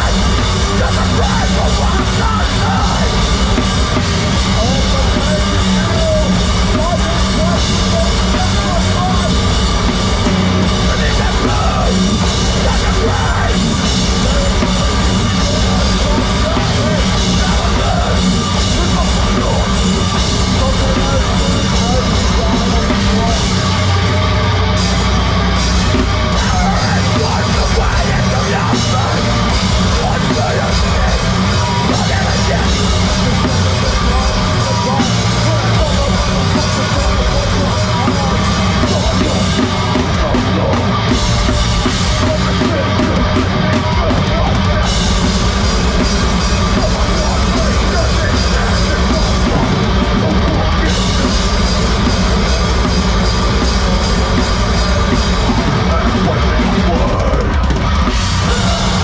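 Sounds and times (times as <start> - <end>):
heavy rock band playing live: 0.0 - 59.0.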